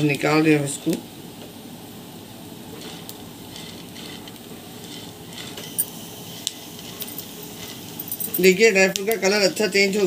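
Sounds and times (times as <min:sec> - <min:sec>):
nuts sizzling in a frying pan: 0:01.8 - 0:10.0.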